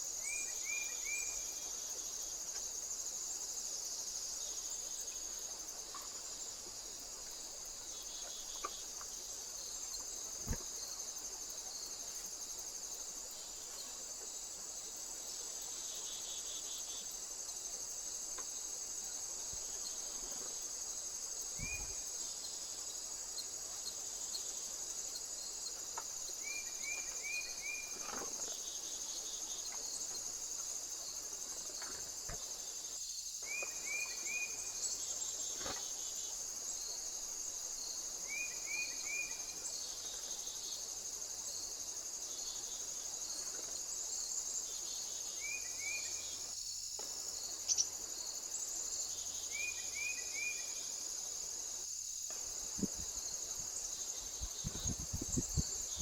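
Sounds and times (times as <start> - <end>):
high-pitched insect chorus trilling: 0.0 - 56.0.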